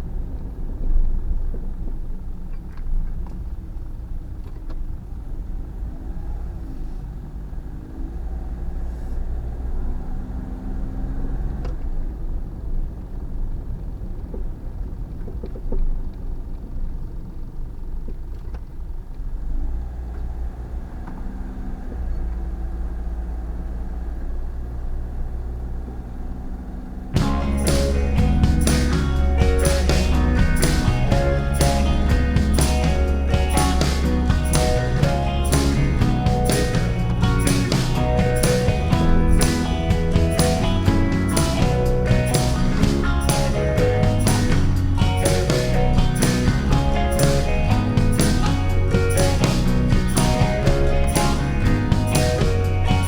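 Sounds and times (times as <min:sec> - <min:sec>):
van engine and road rumble: 0:00.0 - 0:53.0.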